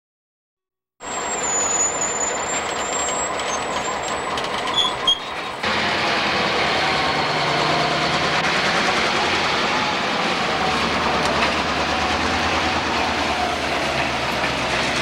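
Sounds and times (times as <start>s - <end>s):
locomotive engine running: 1.0s - 15.0s.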